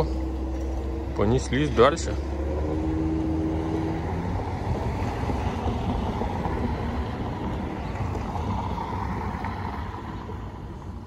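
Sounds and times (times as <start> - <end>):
vehicles driving by: 0.0 - 11.0.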